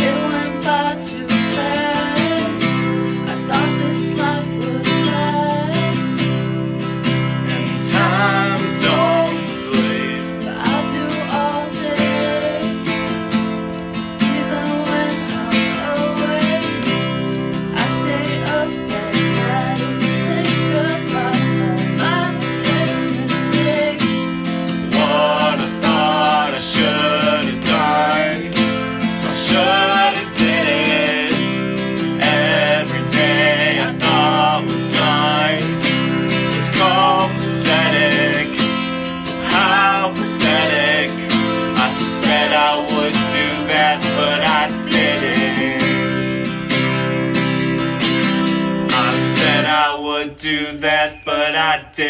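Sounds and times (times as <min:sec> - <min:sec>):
person singing: 0:00.0 - 0:06.5, 0:07.5 - 0:12.9, 0:14.2 - 0:17.0, 0:17.7 - 0:31.6, 0:32.2 - 0:46.2
acoustic guitar strumming: 0:00.0 - 0:52.0.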